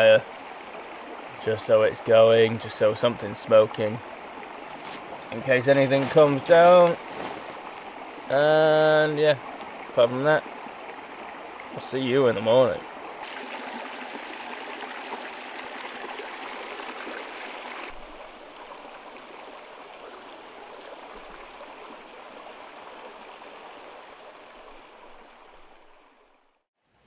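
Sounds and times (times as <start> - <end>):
stream water rushing: 0.0 - 26.4.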